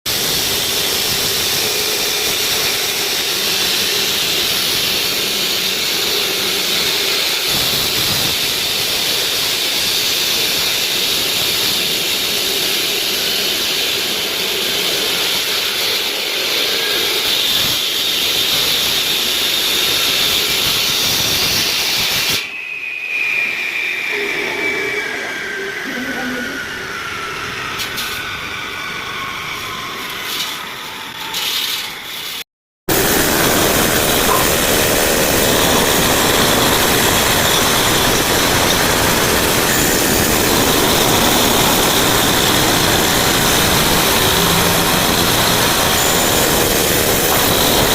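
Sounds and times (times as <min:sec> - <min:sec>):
concrete cutting machine hissing: 0:00.1 - 0:22.6, 0:29.5 - 0:47.9.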